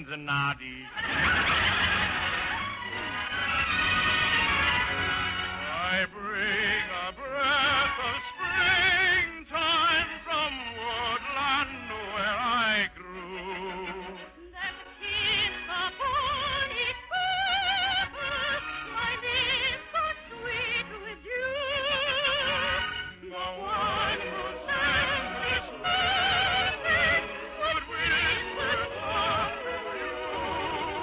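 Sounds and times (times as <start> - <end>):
soprano singing operatically: 0.6 - 31.0
orchestral accompaniment: 0.8 - 31.0.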